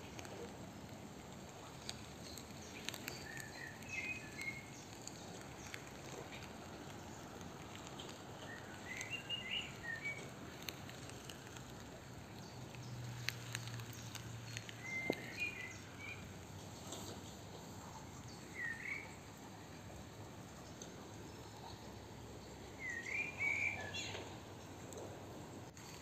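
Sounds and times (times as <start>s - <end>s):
small bird chirping: 1.6s - 24.8s.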